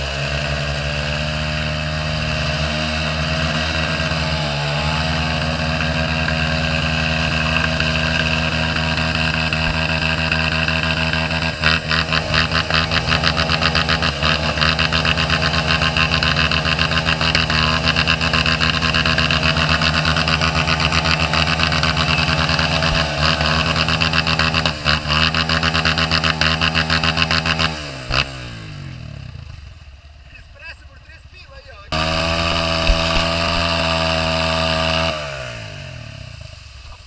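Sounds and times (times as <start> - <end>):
wheels spraying water and mud: 0.0 - 29.9, 31.9 - 37.0
dirt bike engines revving: 0.0 - 37.0.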